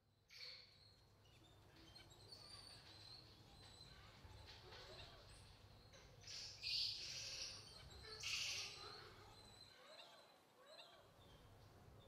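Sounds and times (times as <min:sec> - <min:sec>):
faint high chirping calls: 0:00.1 - 0:12.0.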